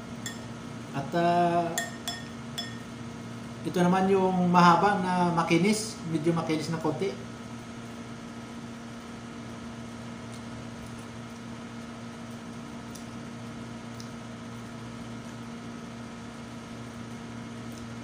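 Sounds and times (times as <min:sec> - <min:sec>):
room appliance humming: 0:00.0 - 0:18.0.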